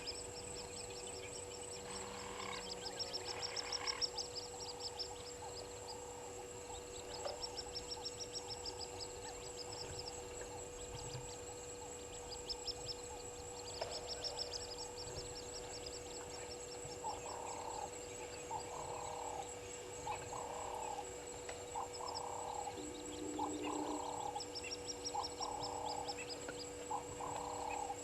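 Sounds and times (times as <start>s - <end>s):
lower bird call: 0.0s - 28.0s.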